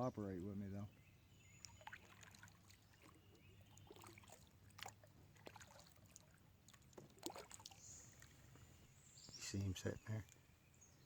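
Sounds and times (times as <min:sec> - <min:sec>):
faint water dripping: 0:00.8 - 0:10.6.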